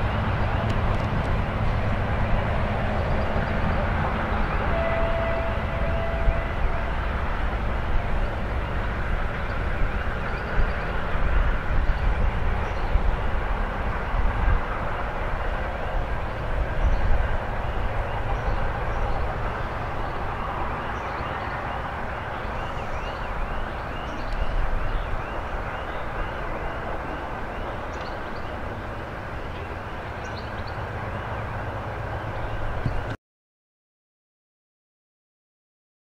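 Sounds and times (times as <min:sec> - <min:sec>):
train wheels rolling on rails: 0:00.0 - 0:33.2.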